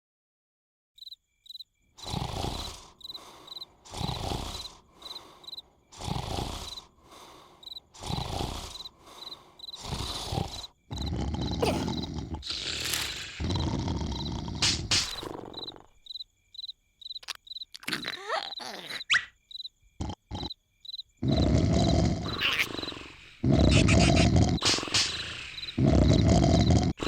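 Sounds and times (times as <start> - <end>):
crickets chirping: 1.0 - 27.0
cartoon snoring: 2.0 - 16.0, 17.8 - 19.3, 20.0 - 20.6, 21.2 - 27.0.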